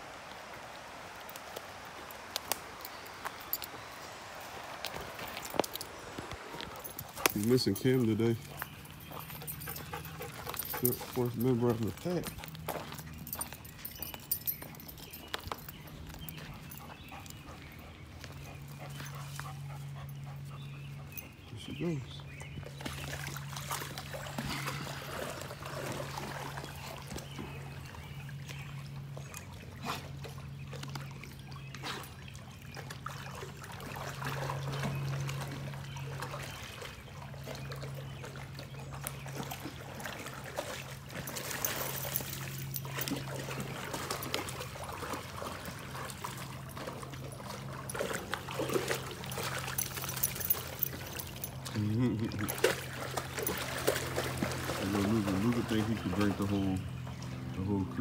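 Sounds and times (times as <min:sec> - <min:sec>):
creek water splashing and trickling: 0:00.0 - 0:58.0
dog swimming splashes: 0:00.0 - 0:58.0.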